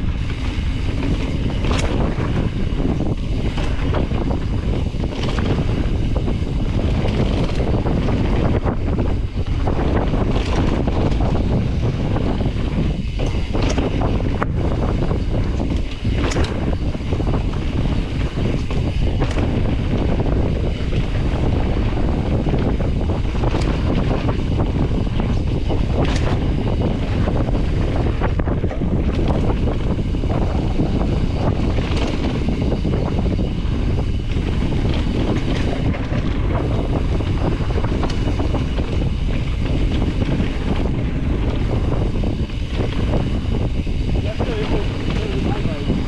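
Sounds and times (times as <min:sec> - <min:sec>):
bike clicks and knocks: 0:00.0 - 0:46.0
mountain bike rumbling on dirt: 0:00.0 - 0:46.0
wind buffeting microphone: 0:00.0 - 0:46.0.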